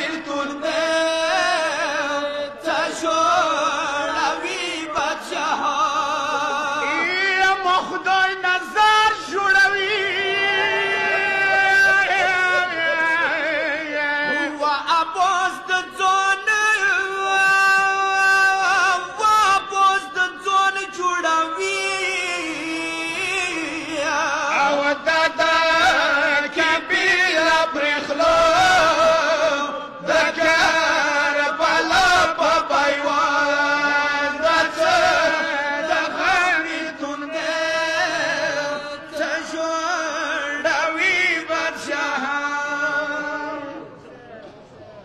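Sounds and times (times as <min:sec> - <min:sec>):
man chanting a lament: 0:00.0 - 0:44.0.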